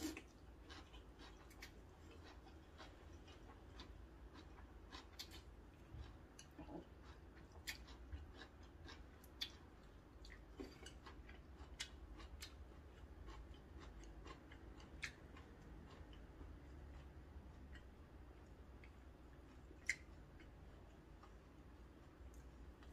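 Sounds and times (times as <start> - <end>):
chewing noodles: 0.0 - 22.9.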